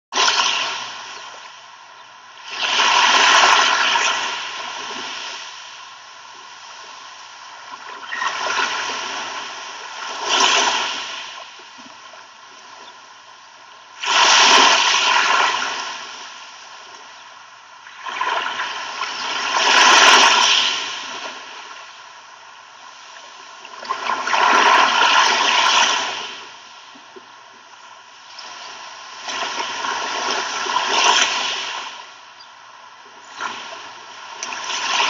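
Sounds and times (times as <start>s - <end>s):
sea waves breaking on beach: 0.1s - 1.5s, 2.4s - 13.0s, 14.0s - 17.1s, 17.9s - 22.2s, 22.8s - 27.1s, 28.2s - 32.2s, 33.2s - 35.0s.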